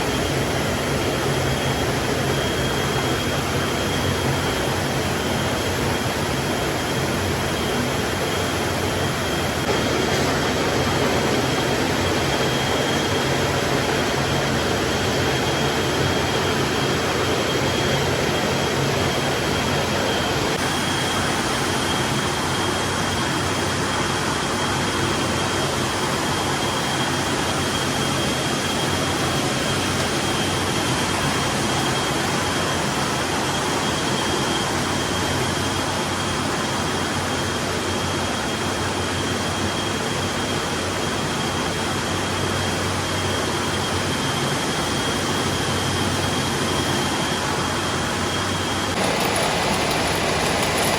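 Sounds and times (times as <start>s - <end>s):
loud machine noise: 0.0s - 39.0s, 41.6s - 50.9s
high-pitched whine: 0.0s - 50.9s.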